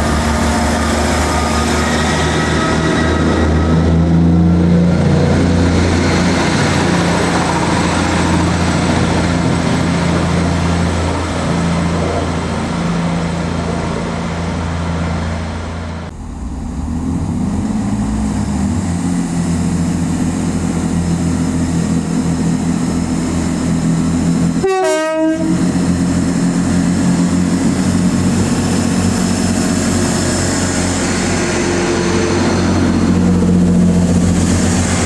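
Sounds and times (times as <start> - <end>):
diesel train engine drone: 0.0 - 35.0.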